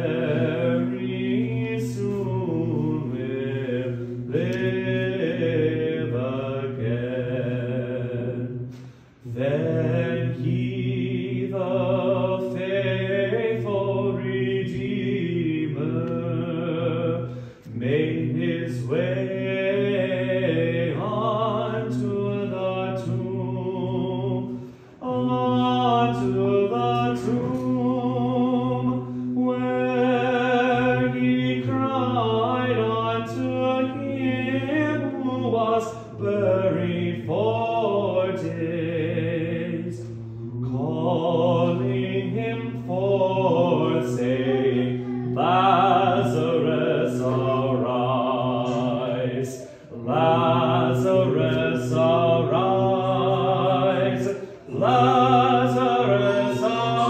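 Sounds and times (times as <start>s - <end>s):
choir chanting: 0.0s - 57.0s.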